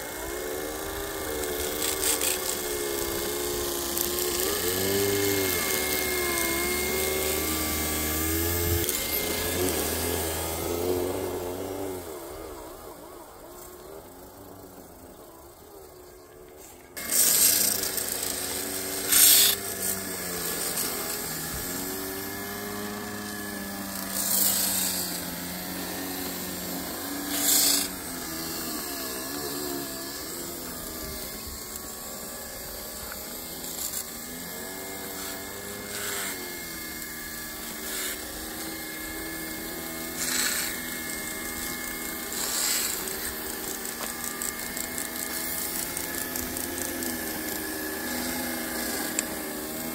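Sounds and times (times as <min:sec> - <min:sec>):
brush scraping on rails: 0:00.0 - 0:13.8, 0:16.4 - 0:49.9
small electric motor whirring: 0:00.0 - 0:49.9.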